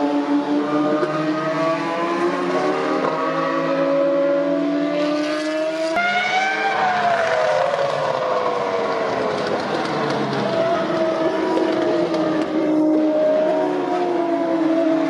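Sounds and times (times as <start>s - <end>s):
racing car engines accelerating: 0.0s - 15.0s.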